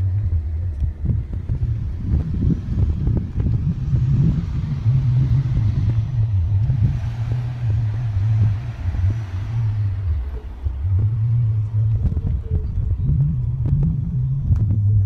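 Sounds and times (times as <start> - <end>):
pickup engine rumbling at low revs: 0.0 - 15.0.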